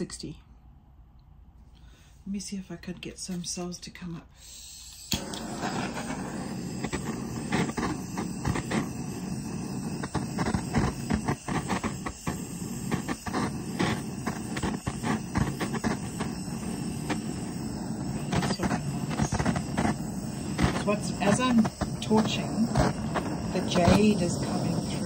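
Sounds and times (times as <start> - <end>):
heat gun fan blowing: 4.4 - 25.0.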